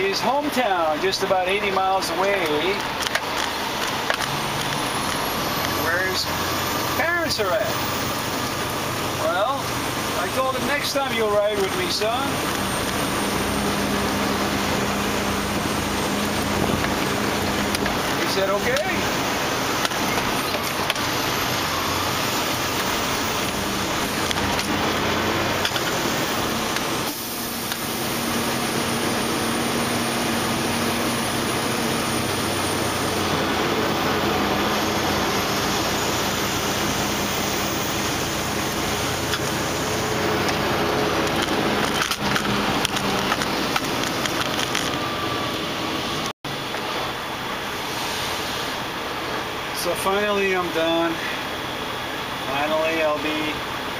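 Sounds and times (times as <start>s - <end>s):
road noise: 0.0s - 53.9s
truck engine drone: 0.0s - 53.9s.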